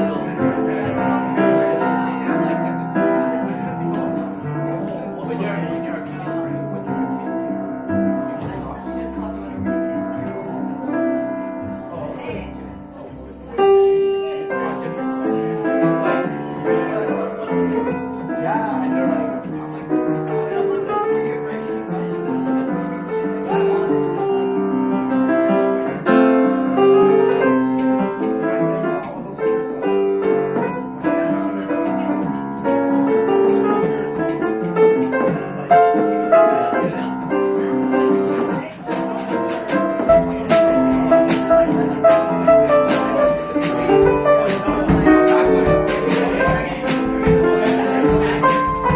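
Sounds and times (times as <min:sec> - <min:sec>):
audience chatter: 0:00.0 - 0:48.9
jazz band with piano: 0:00.0 - 0:48.9.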